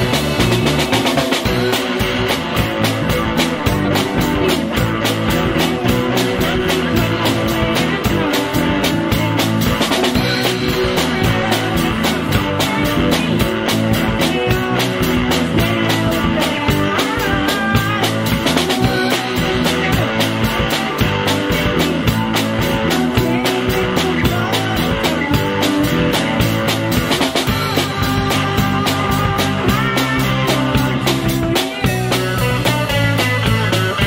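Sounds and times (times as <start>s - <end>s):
drum kit beat: 0.0s - 34.0s
electric bass: 0.0s - 34.0s
electric guitar: 0.0s - 34.0s.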